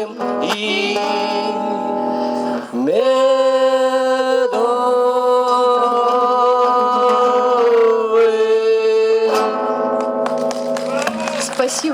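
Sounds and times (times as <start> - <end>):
guitar: 0.0 - 11.9.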